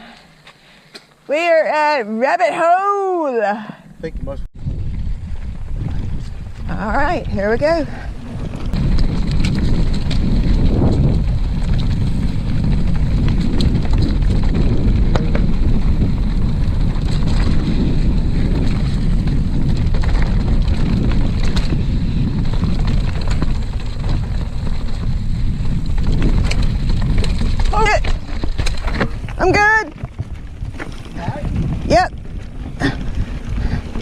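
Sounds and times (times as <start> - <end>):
wind rushing over microphone: 4.0 - 34.0
bike clicks and rattles: 4.6 - 34.0.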